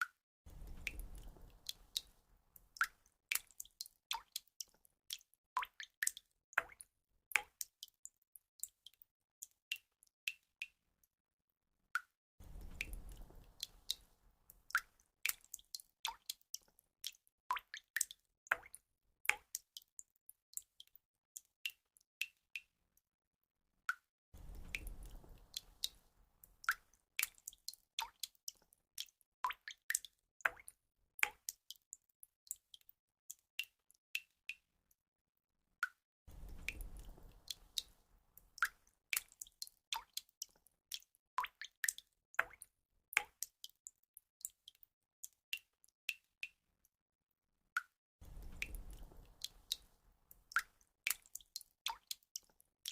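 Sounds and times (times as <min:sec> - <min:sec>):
water drops dripping: 0:00.0 - 0:10.8, 0:12.0 - 0:22.7, 0:23.9 - 0:34.7, 0:35.8 - 0:46.6, 0:47.8 - 0:52.9.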